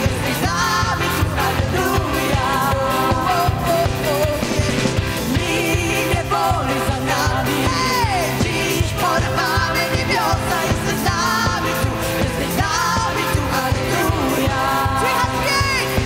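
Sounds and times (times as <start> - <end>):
electric guitar: 0.0 - 16.0
keyboard: 0.0 - 16.0
women singing together: 0.0 - 16.0.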